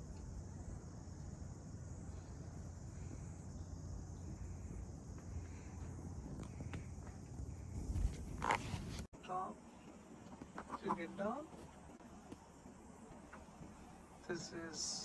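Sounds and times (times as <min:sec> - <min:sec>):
constant low rumble: 0:00.0 - 0:15.0
high-pitched insect chorus: 0:00.0 - 0:15.0.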